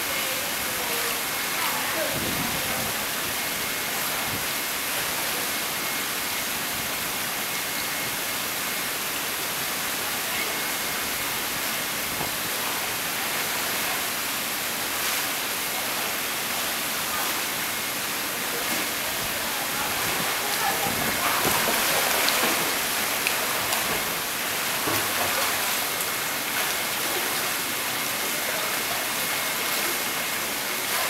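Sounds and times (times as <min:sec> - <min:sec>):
pool water rushing into gutter: 0:00.0 - 0:31.0.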